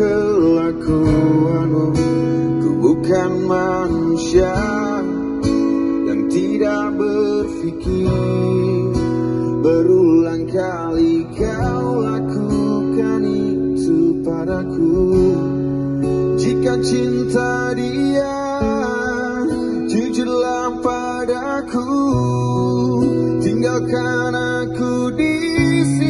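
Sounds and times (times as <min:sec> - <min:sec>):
acoustic guitar strumming: 0:00.0 - 0:26.0
man singing: 0:00.0 - 0:26.0.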